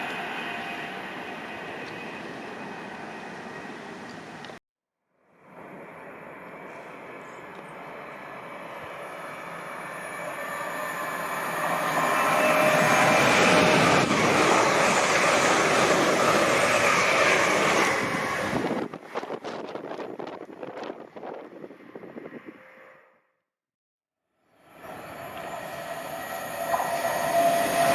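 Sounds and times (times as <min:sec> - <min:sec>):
train passing at speed: 0:00.0 - 0:04.6, 0:05.2 - 0:23.1, 0:24.5 - 0:27.9.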